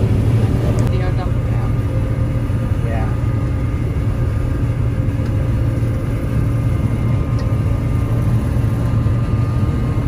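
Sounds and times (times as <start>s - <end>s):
combine harvester drone: 0.0s - 10.0s.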